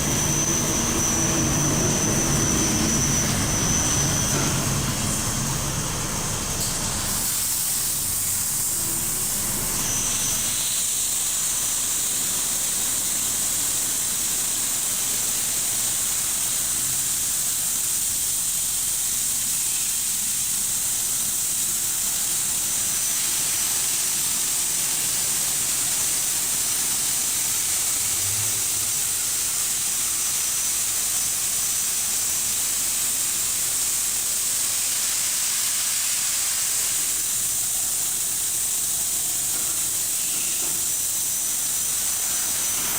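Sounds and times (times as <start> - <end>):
car wash hissing: 0.0 - 42.9.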